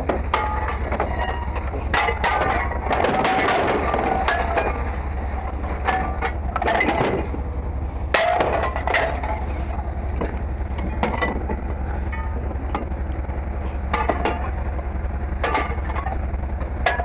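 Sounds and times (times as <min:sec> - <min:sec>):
metal parts clanking: 0:00.0 - 0:07.5, 0:08.1 - 0:12.9, 0:13.8 - 0:14.6, 0:15.4 - 0:16.2
steady low hum: 0:00.0 - 0:17.0.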